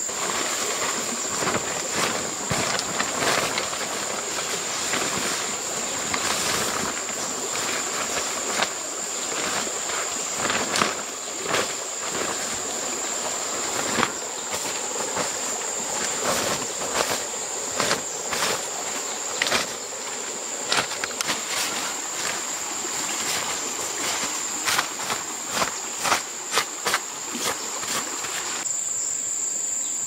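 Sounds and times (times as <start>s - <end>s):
insects droning high-pitched: 0.0s - 30.0s.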